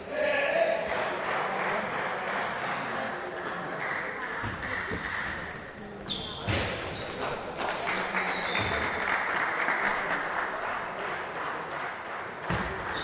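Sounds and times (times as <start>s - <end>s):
spectators clapping: 0.9s - 5.7s, 7.0s - 13.0s.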